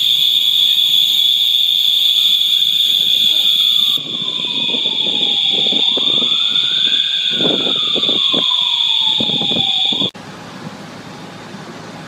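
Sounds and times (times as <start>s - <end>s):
fire alarm high tone: 0.0s - 10.2s
siren wailing: 0.0s - 10.2s
steady background noise: 0.0s - 12.0s.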